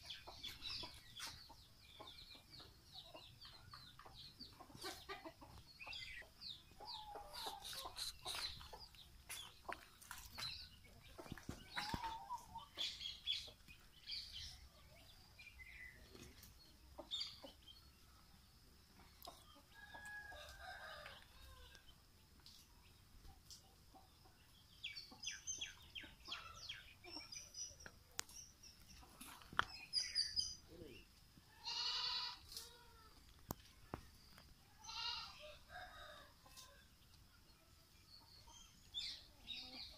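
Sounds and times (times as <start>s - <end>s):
rooster clucking and chirping: 0.0s - 30.9s, 33.2s - 39.9s.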